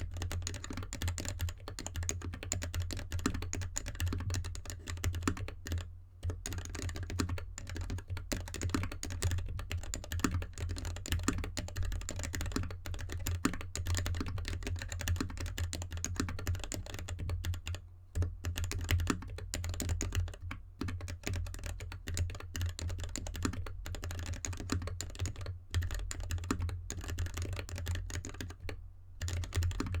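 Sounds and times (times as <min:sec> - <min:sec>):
typing on mechanical keyboard: 0:00.0 - 0:30.0.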